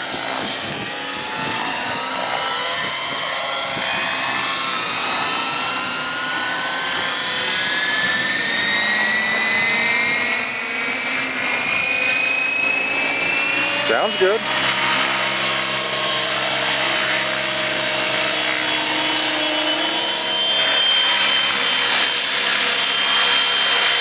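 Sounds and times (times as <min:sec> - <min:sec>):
model helicopter motor whine rising: 0:00.0 - 0:24.0.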